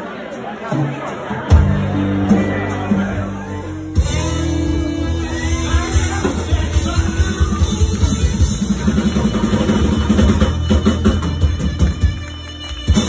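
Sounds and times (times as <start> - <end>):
drum kit beat: 0.3 - 13.0
bass notes: 1.4 - 13.0
electric guitar: 1.5 - 13.0.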